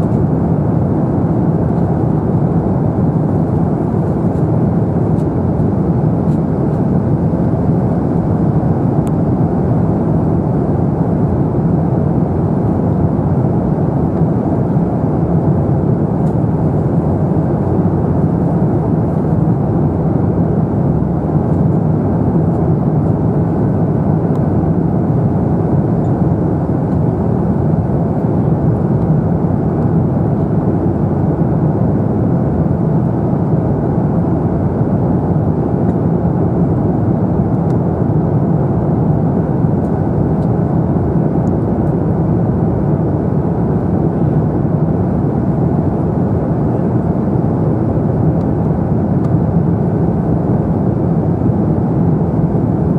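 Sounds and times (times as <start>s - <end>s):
jet engines humming: 0.0s - 52.9s.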